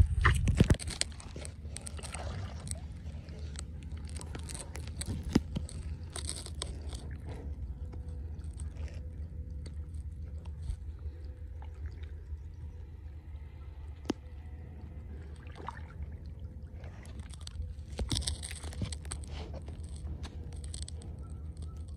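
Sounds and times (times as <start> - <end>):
low rumble: 0.0 - 21.9.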